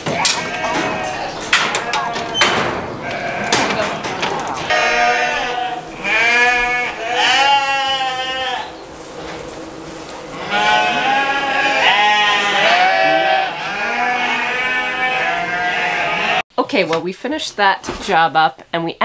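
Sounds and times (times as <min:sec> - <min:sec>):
sheep bleating: 0:00.0 - 0:16.4.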